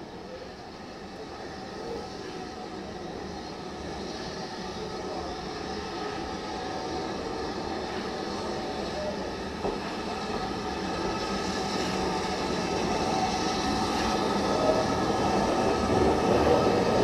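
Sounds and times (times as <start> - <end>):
steam locomotive approaching: 0.0 - 17.0.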